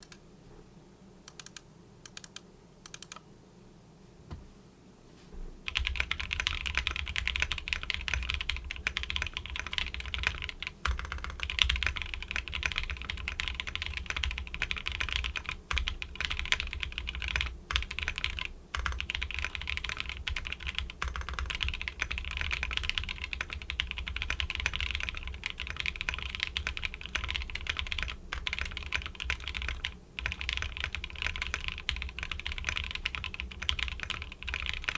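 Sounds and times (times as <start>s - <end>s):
typing on mechanical keyboard: 1.3s - 3.2s, 5.7s - 34.9s.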